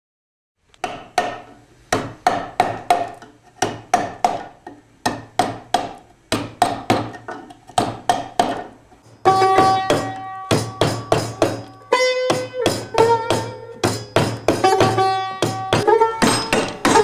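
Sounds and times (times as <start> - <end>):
mallet and chisel knocking wood: 0.8 - 17.0.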